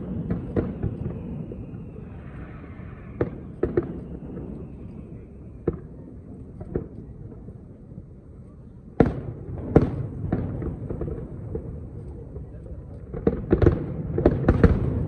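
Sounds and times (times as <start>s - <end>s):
fireworks bursting with bangs: 0.0s - 8.0s, 8.9s - 15.0s
low rumble of fireworks: 0.0s - 15.0s.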